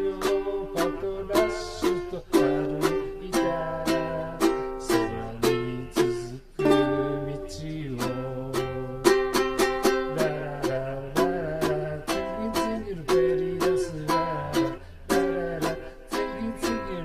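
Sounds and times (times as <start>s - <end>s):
ukulele strumming chords: 0.0s - 17.0s.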